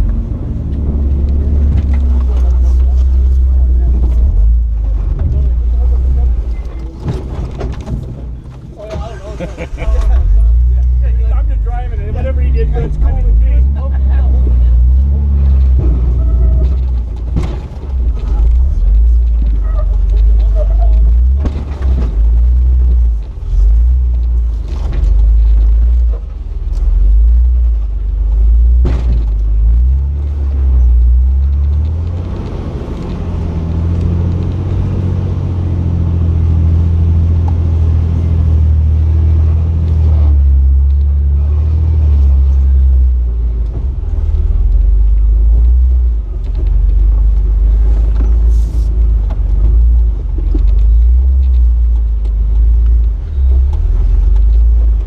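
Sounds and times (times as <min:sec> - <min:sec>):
engine rumbling at low speed: 0:00.0 - 0:55.0.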